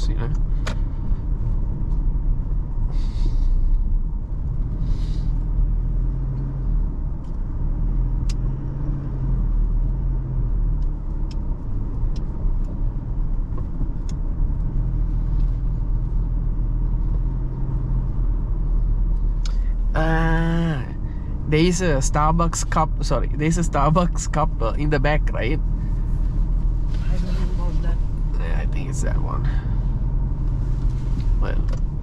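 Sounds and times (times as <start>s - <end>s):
car cabin road rumble: 0.0s - 32.0s.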